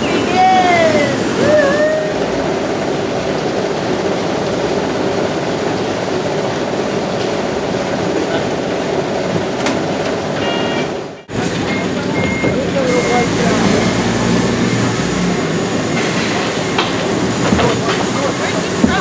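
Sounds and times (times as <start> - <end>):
loud mechanical equipment noise: 0.0 - 19.0.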